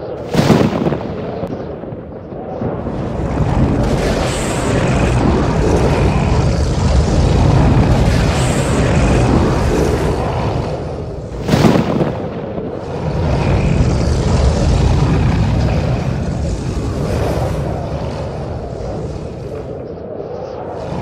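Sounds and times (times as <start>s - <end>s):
deep roar of tornado wind: 0.0s - 21.0s.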